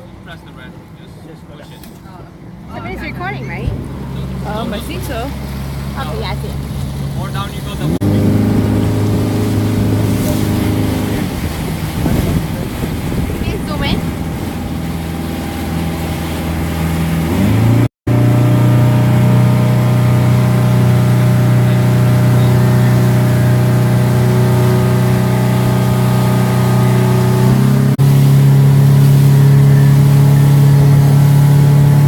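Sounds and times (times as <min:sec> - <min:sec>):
motorboat engine running: 0:02.7 - 0:32.0.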